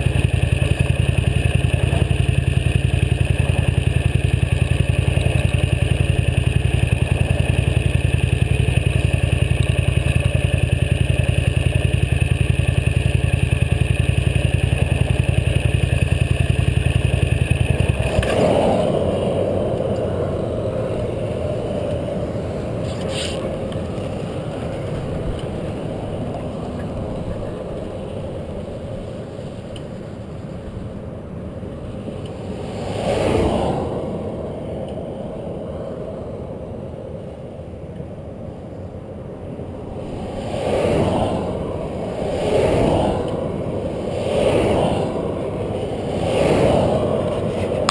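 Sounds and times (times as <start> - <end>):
motorcycle engine cruising: 0.0 - 34.4, 39.5 - 47.9
wind and road noise: 0.0 - 47.9.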